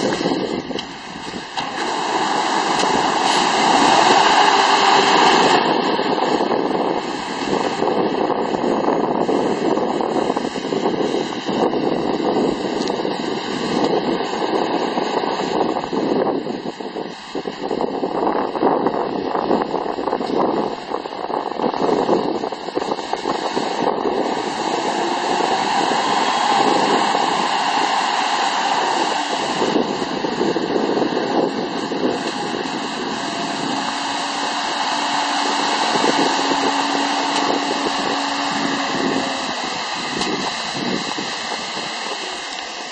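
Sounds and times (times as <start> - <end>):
water spray hissing: 0.0 - 15.6, 21.9 - 42.9
truck engine running: 0.0 - 42.9.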